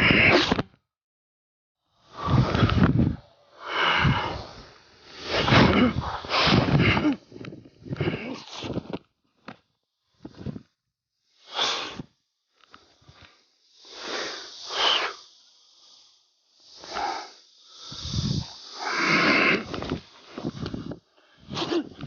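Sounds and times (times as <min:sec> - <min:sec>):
forceful hissing exhalations: 0:00.0 - 0:00.6, 0:01.8 - 0:09.0, 0:10.0 - 0:22.0.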